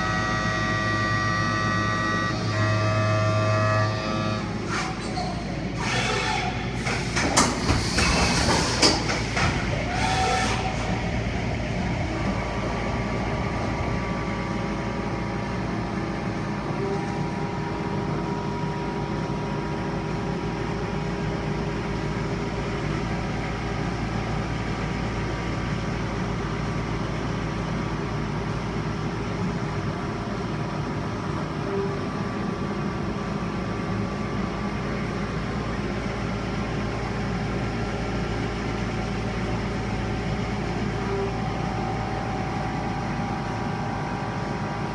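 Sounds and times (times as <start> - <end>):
machining centre humming: 0.0 - 44.9.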